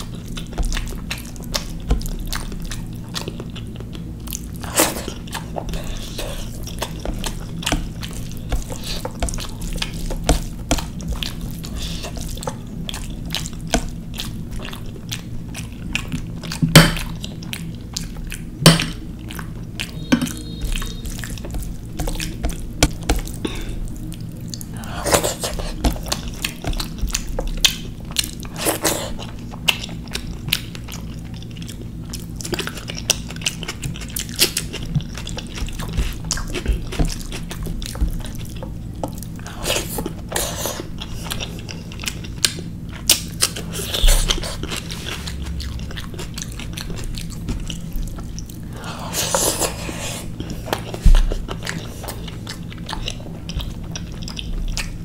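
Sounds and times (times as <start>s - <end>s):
chewing and wet mouth sounds: 0.0s - 55.0s
steady low hum: 0.0s - 55.0s.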